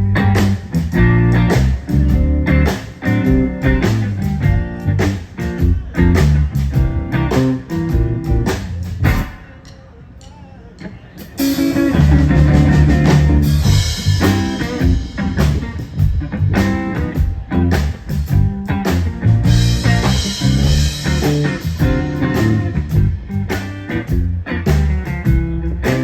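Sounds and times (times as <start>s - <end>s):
blues-rock band playing: 0.0s - 9.5s, 11.3s - 26.0s.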